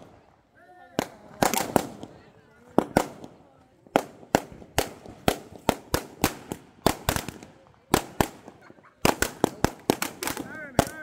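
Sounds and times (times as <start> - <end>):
firecrackers banging: 0.0 - 11.0.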